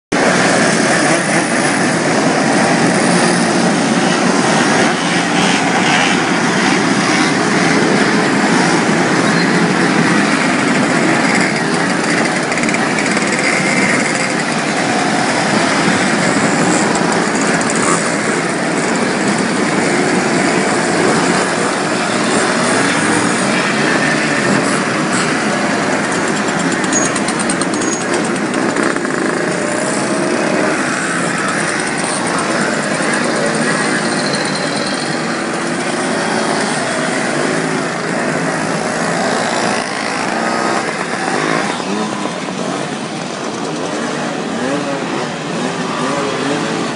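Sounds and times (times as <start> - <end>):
moped engines buzzing: 0.1 - 46.9.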